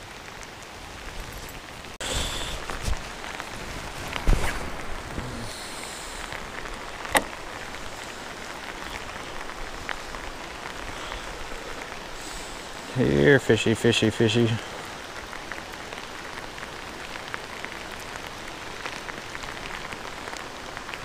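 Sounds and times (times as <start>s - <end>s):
heavy rain on water: 0.0s - 21.0s.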